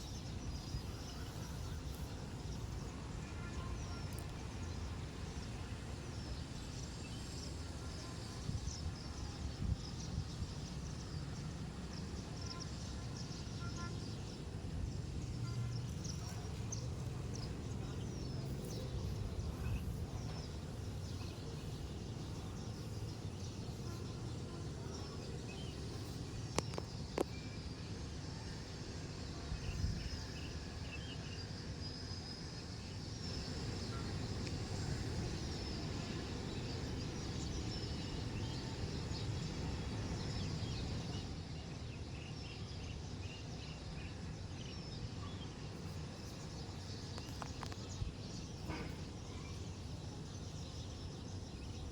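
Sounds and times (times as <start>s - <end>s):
steady low outdoor noise: 0.0s - 51.9s.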